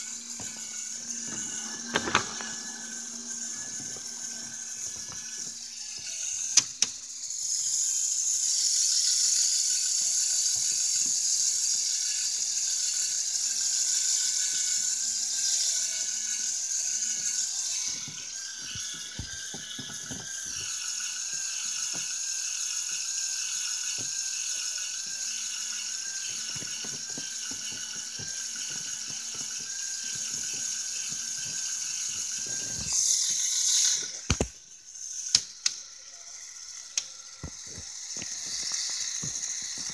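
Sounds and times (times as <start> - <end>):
plastic gears clicking and rattling: 0.0 - 39.9
small electric motors whirring: 0.0 - 39.9.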